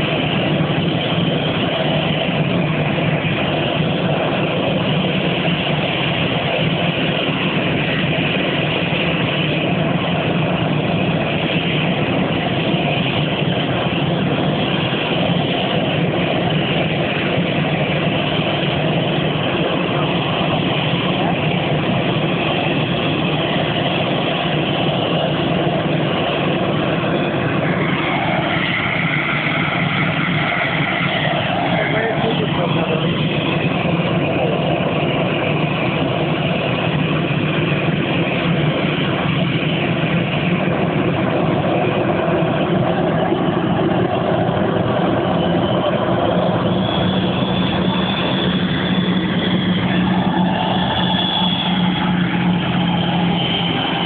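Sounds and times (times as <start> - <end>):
jet engines roaring with whine: 0.0 - 54.0.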